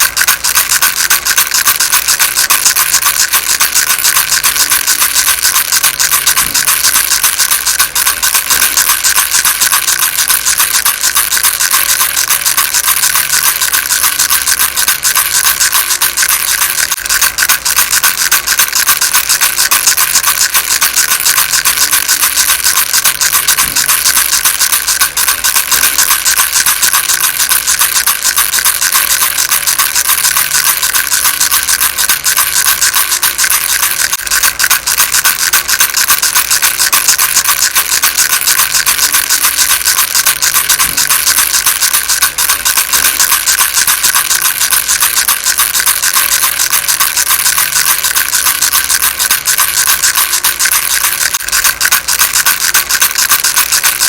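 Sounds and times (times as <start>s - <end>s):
baby rattle shaking: 0.0s - 54.0s.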